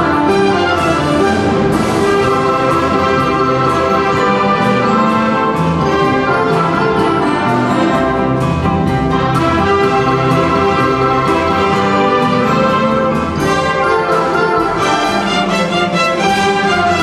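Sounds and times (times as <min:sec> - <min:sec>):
sustained brass: 0:00.0 - 0:08.3, 0:09.2 - 0:17.0
bowed strings: 0:00.0 - 0:17.0
percussion strikes: 0:00.0 - 0:17.0.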